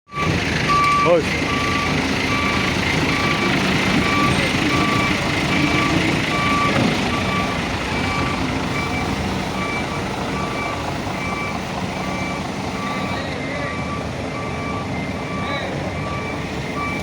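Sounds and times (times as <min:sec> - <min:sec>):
reversing alarm beeping: 0:00.1 - 0:17.0
truck engine running: 0:00.1 - 0:17.0.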